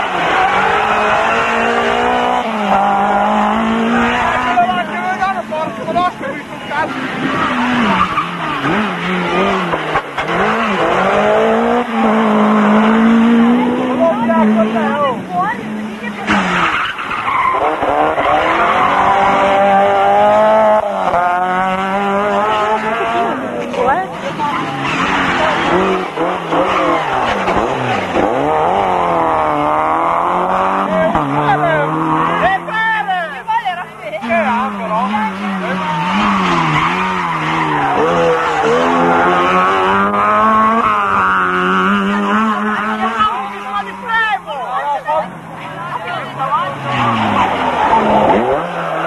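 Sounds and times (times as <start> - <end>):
rally car engine revving: 0.0 - 49.0.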